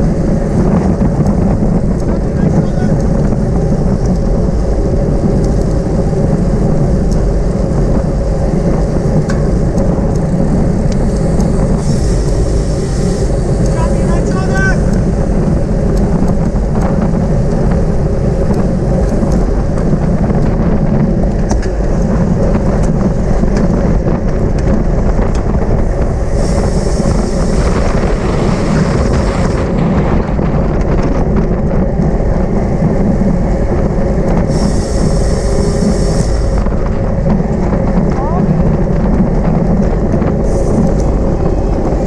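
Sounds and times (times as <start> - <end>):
tyre and road noise: 0.0 - 42.0
wind buffeting microphone: 0.0 - 42.0.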